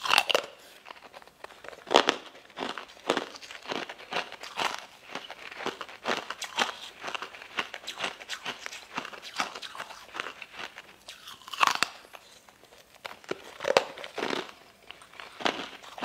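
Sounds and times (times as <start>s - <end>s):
chewing jelly candies: 0.0s - 16.0s.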